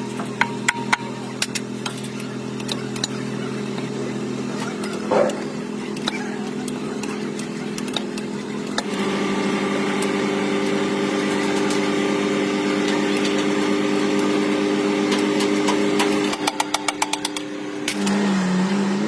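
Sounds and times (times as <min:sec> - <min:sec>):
machine motor humming: 0:00.0 - 0:19.0.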